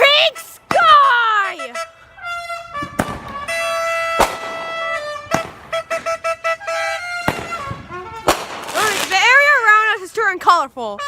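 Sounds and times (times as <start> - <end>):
firework bangs: 0.0 - 9.8.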